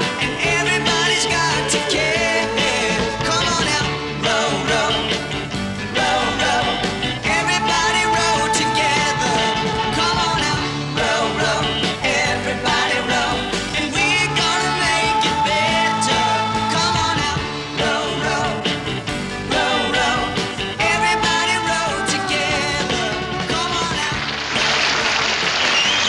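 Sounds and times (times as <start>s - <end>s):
pop music with steady beat: 0.0s - 24.5s.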